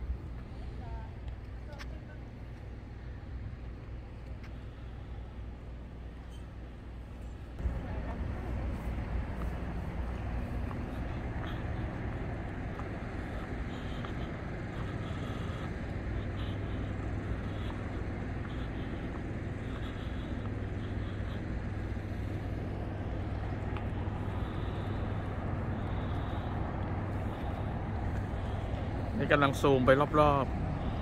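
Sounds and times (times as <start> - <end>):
city background rumble: 0.0 - 31.0.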